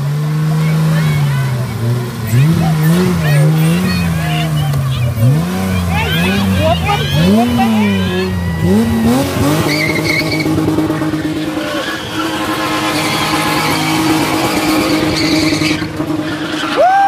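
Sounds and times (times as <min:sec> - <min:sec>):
car engine at high revs: 0:00.0 - 0:17.0
tyres screeching on tarmac: 0:00.4 - 0:17.0.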